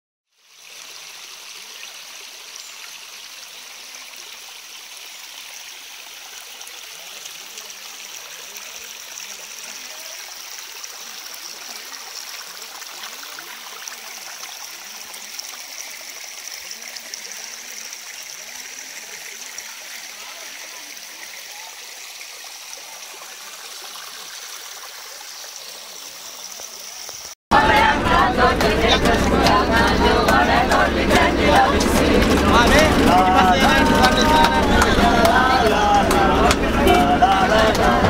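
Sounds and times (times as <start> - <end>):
stream rushing over rocks: 0.3 - 38.0.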